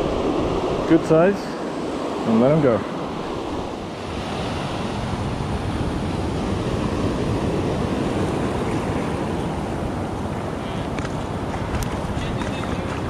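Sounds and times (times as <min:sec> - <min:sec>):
small waves breaking on sand: 0:00.0 - 0:13.0
wind rumble on microphone: 0:00.0 - 0:13.0.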